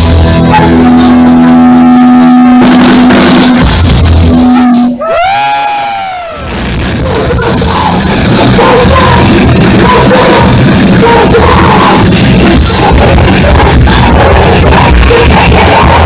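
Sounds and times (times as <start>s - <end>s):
bass guitar: 0.0s - 16.0s
distorted electric guitar: 0.0s - 16.0s
drums: 0.0s - 16.0s.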